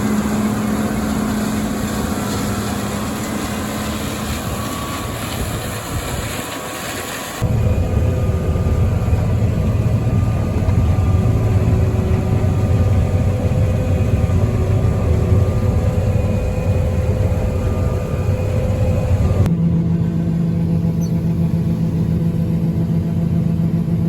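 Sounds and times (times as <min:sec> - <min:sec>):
farm machine engine droning: 0:00.0 - 0:24.0.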